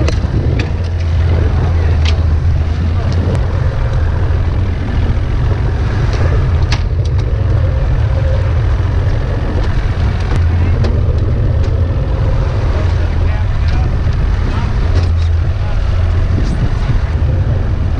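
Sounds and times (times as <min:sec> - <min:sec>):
boat motor running: 0:00.0 - 0:17.9.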